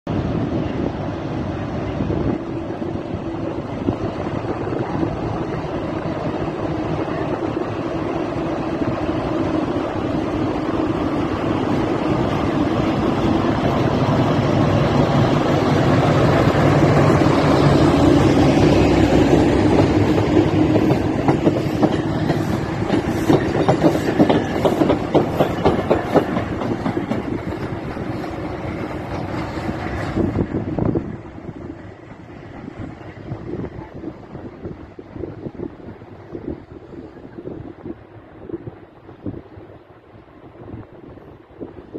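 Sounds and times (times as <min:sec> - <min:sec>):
steam train passing: 0:00.1 - 0:41.9.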